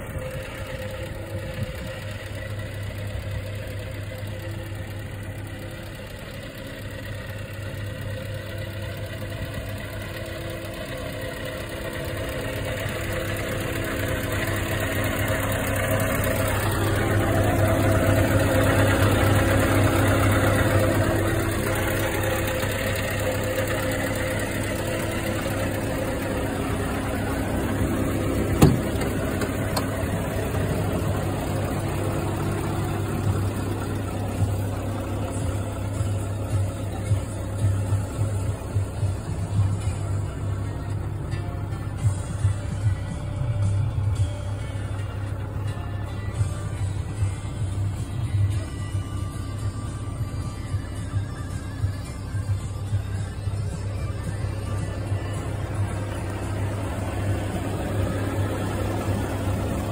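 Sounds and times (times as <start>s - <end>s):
truck diesel engine idling: 0.0s - 59.9s.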